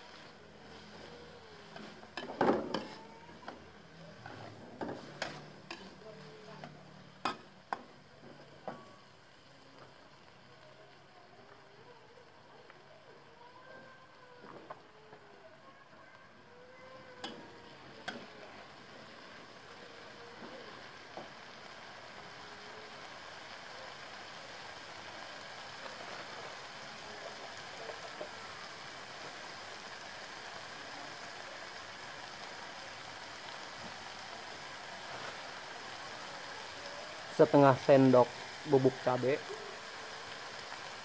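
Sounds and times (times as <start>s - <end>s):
vegetables sizzling in wok: 0.0s - 41.0s.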